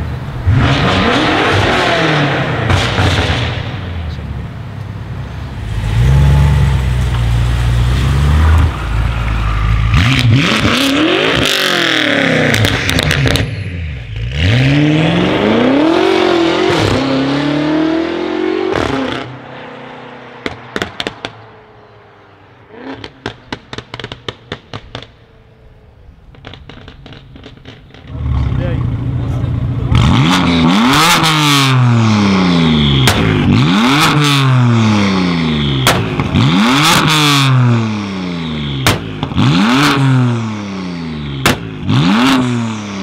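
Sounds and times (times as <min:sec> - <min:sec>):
car engine accelerating: 0:00.3 - 0:43.0.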